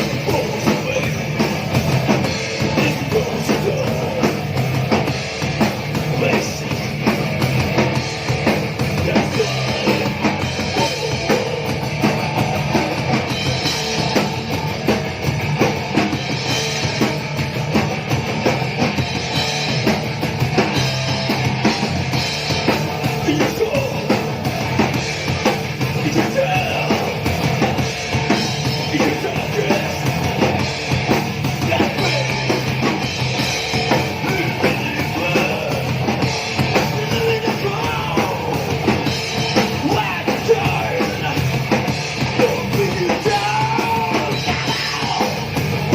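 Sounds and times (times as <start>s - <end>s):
fast dense drumming: 0.0s - 45.9s
live punk band playing: 0.0s - 45.9s.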